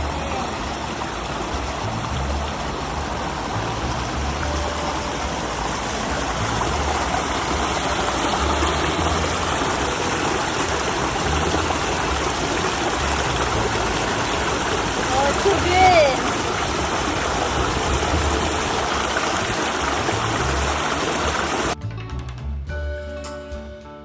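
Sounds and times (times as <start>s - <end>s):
mountain stream rushing: 0.0s - 21.8s.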